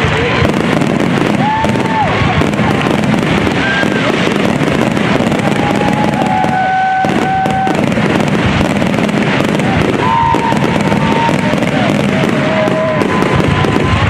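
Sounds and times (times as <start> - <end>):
fireworks crackling and bursting: 0.0 - 14.0
whistling fireworks: 0.0 - 14.0.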